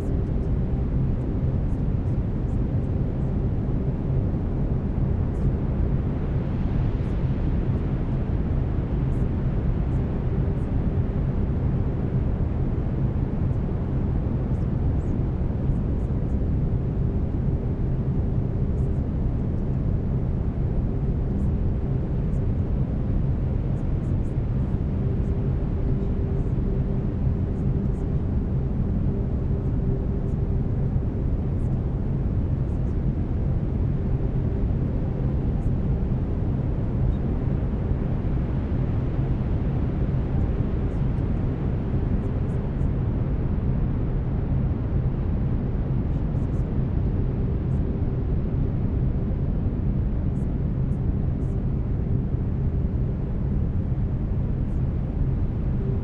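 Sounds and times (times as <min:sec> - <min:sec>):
faint steady tone: 0:00.0 - 0:56.0.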